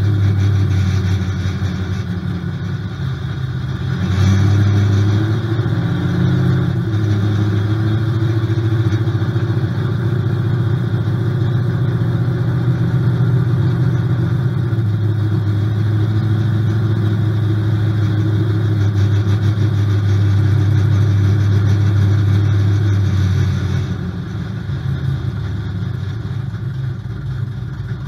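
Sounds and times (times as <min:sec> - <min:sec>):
engine deep drone: 0:00.0 - 0:28.0.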